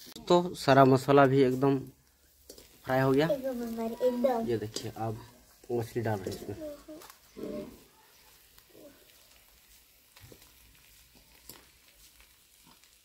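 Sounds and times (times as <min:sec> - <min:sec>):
faint sizzling in a pan: 0:00.0 - 0:13.0.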